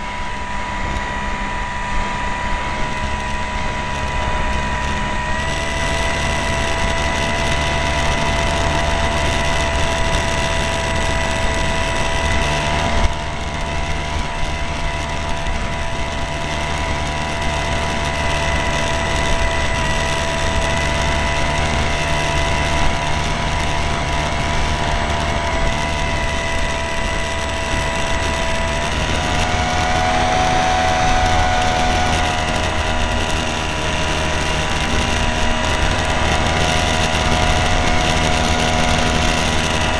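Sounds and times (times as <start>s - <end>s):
small plane engine whine: 0.0s - 39.9s
wind on microphone: 0.0s - 39.9s.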